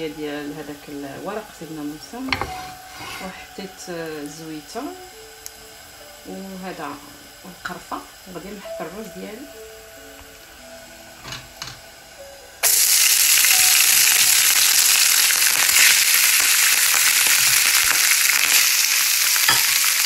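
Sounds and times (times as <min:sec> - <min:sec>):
rice sizzling in hot oil: 0:00.0 - 0:20.0.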